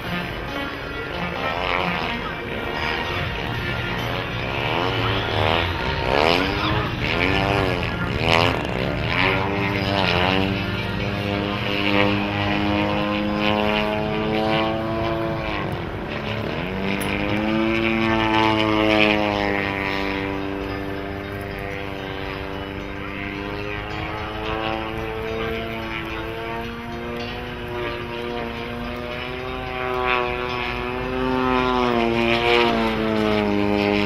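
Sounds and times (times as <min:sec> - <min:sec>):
model plane motor and propeller: 0:00.0 - 0:34.0.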